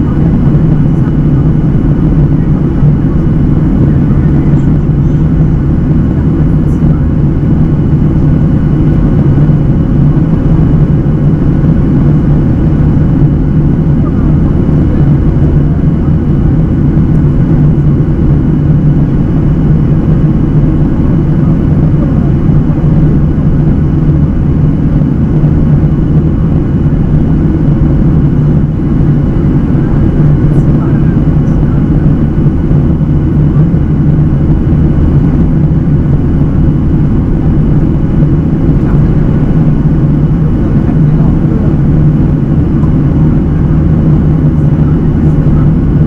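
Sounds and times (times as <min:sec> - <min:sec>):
jet airliner cabin drone: 0:00.0 - 0:46.0.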